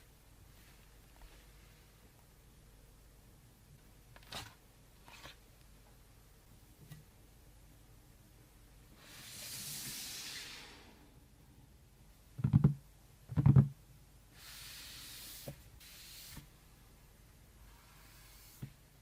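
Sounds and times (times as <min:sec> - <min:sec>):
soft hiss: 0:00.0 - 0:12.3, 0:13.9 - 0:19.0.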